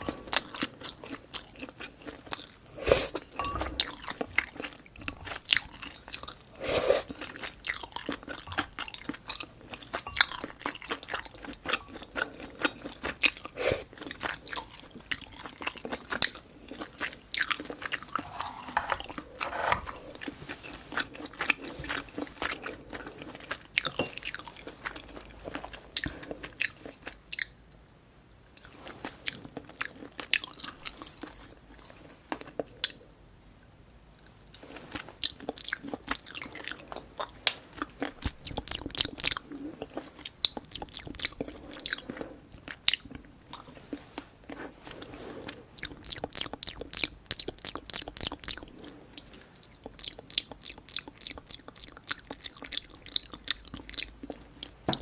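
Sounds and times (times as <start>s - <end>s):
chewing with crunchy bites: 0.0s - 27.6s, 28.4s - 33.2s, 34.2s - 55.0s.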